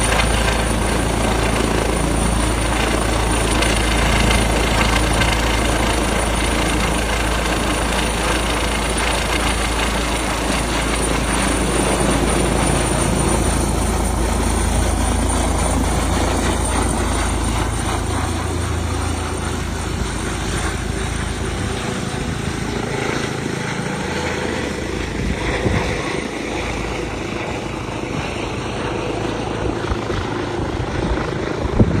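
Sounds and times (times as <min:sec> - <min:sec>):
helicopter running: 0:00.0 - 0:32.0.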